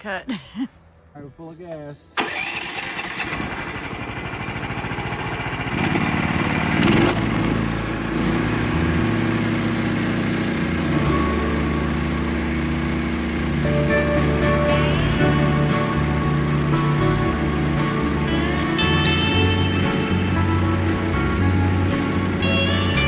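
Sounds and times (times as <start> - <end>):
small gasoline engine running: 2.2 - 23.0.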